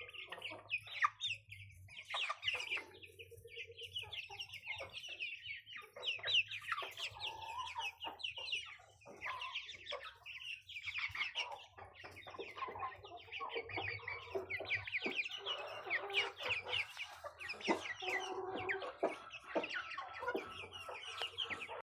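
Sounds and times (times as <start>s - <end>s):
chicks peeping: 0.0s - 21.8s.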